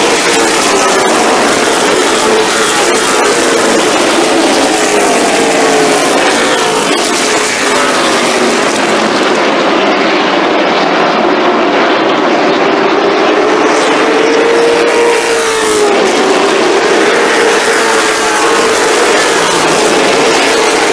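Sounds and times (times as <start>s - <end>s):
race car engines droning: 0.0s - 20.9s.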